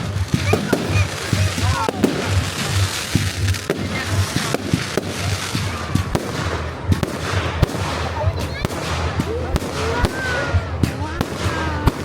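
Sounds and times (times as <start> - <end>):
crackling hiss: 0.0 - 12.0
fireworks bangs: 0.0 - 12.0.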